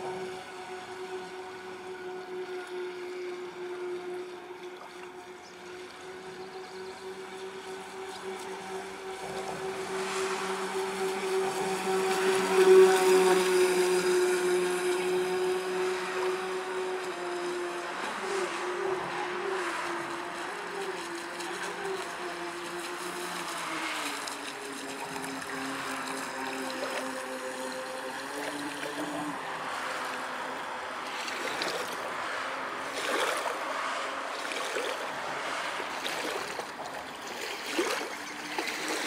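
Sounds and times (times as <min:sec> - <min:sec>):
electric motors whining: 0:00.0 - 0:39.0.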